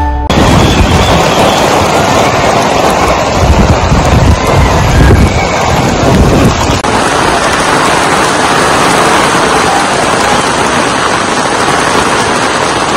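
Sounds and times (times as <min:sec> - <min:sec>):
heavy rain on stone paving: 0:00.3 - 0:12.9
wind gusts on microphone: 0:00.3 - 0:12.9.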